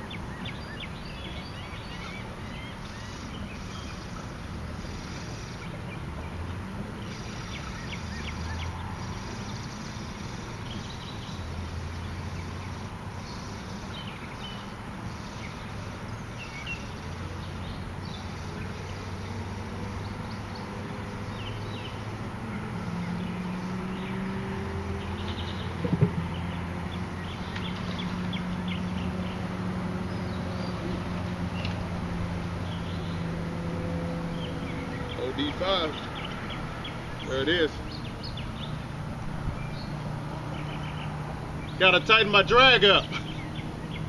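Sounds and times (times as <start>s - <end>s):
distant motor drone: 0.0s - 44.0s
small birds chirping: 0.0s - 44.0s.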